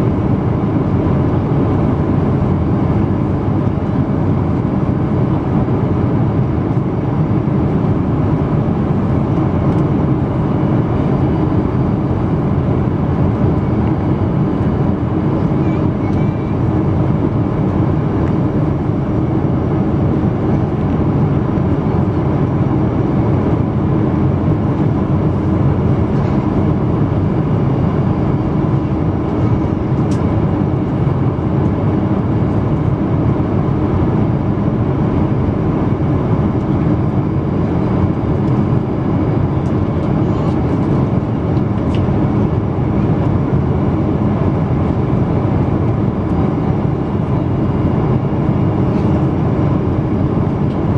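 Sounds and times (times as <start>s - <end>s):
airplane cabin engine roar: 0.0s - 50.9s.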